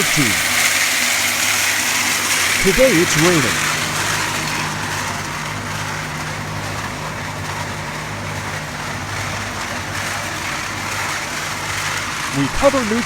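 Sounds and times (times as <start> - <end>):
concrete mixer engine running: 0.0 - 13.0.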